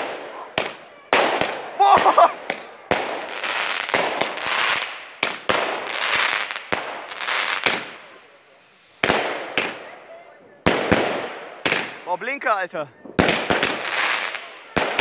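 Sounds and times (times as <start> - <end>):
crackling firework stars: 0.0 - 12.4, 13.0 - 15.0
firework reports: 0.0 - 15.0.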